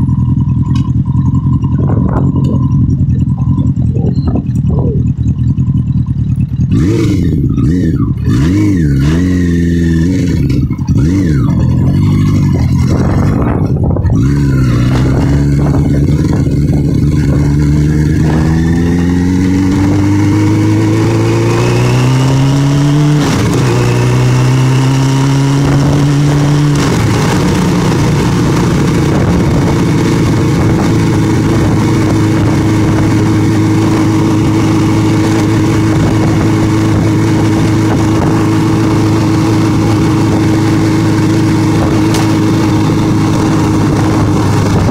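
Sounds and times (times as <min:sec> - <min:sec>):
motorcycle engine accelerating: 0:00.0 - 0:44.9
wind noise: 0:00.6 - 0:05.3, 0:10.1 - 0:44.9.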